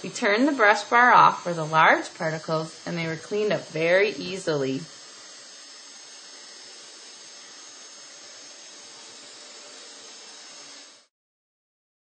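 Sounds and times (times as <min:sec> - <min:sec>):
vacuum cleaner running: 0:00.0 - 0:11.1.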